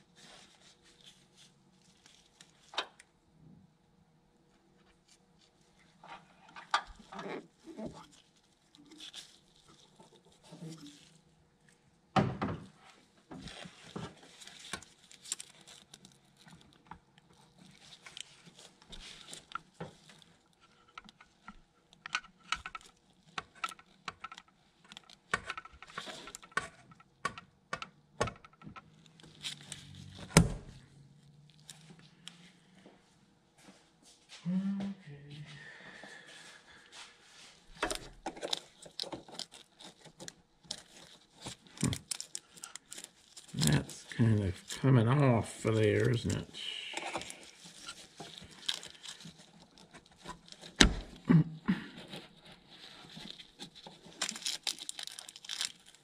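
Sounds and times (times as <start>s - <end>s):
plastic wrap rustling: 0.0s - 3.0s, 4.8s - 11.8s, 12.7s - 27.2s, 28.8s - 32.8s, 36.6s - 56.0s.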